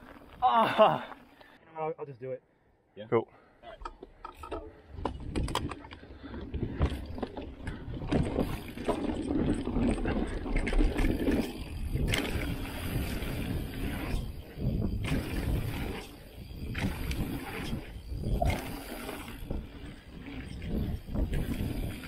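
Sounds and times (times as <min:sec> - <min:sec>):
bike tyres rolling over dirt: 0:00.0 - 0:01.6, 0:04.7 - 0:22.0
bike rattling clicks and knocks: 0:03.8 - 0:22.0.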